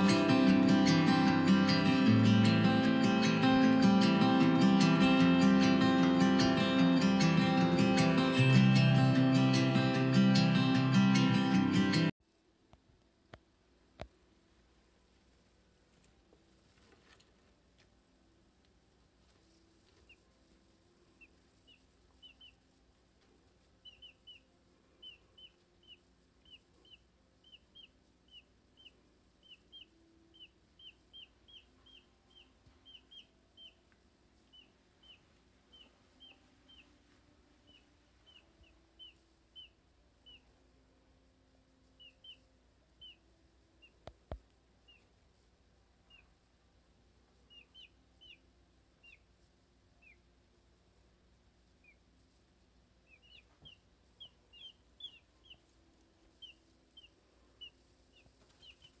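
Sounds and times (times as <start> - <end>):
chicks peeping: 0.0 - 12.1, 19.2 - 40.6, 41.8 - 46.5, 47.3 - 50.3, 51.6 - 59.0.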